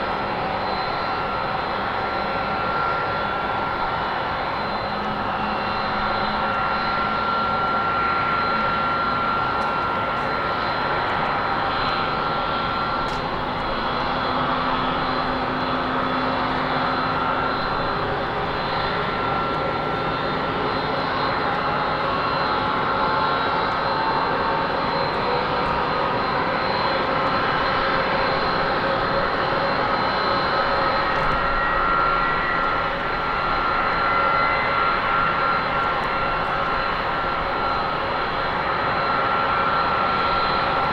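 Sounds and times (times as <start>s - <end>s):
jet engines running with whine: 0.0s - 40.9s.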